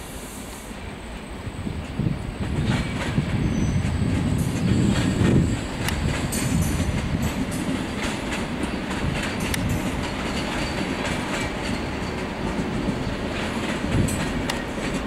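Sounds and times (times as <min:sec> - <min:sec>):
train rolling rumble: 0:00.0 - 0:15.0
train wheels clacking over rail joints: 0:02.4 - 0:15.0.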